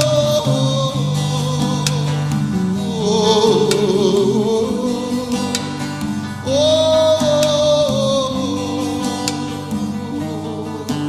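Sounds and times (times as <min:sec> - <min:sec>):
acoustic guitar: 0:00.0 - 0:11.0
person singing long wordless notes: 0:00.0 - 0:11.0.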